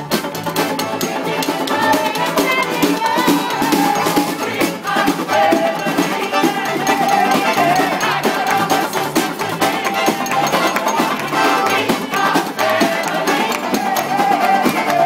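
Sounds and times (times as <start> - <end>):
live band playing pop: 0.0 - 15.0.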